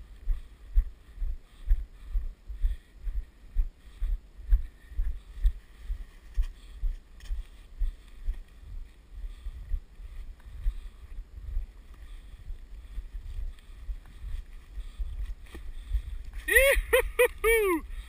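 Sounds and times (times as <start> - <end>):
dull thuds of ski strides: 0.0 - 16.6.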